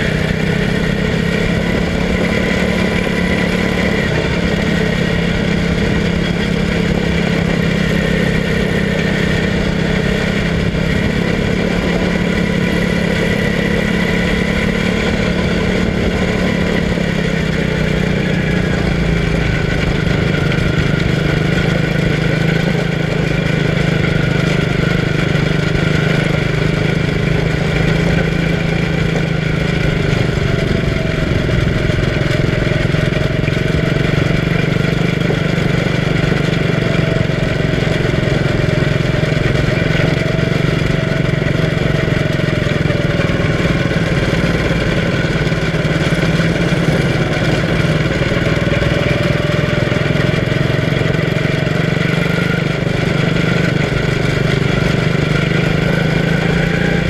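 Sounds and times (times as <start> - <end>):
small race car engine running: 0.0 - 57.0.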